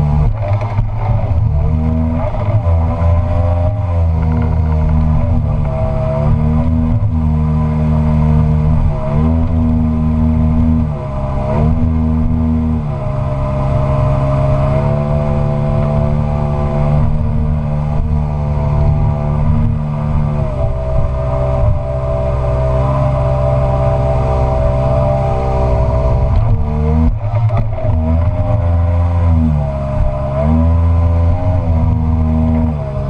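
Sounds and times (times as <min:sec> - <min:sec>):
outboard engine running hard: 0:00.0 - 0:33.0.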